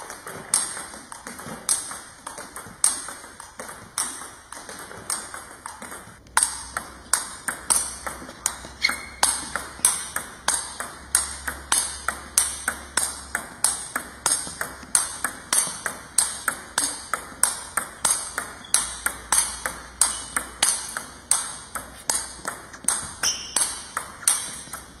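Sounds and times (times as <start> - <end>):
table tennis ball clicking: 0.3 - 25.0.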